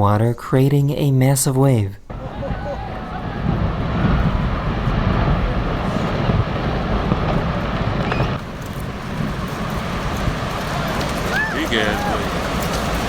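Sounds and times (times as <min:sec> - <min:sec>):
glacier calving into water: 0:02.1 - 0:13.0.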